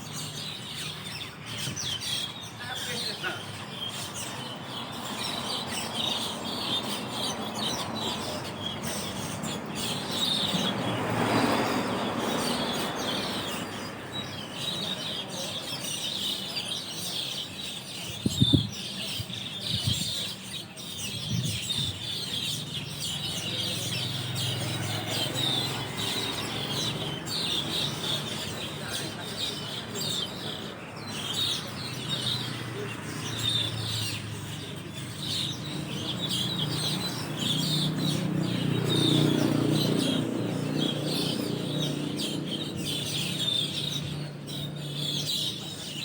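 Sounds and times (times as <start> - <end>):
flock of starlings chattering: 0.0 - 46.0.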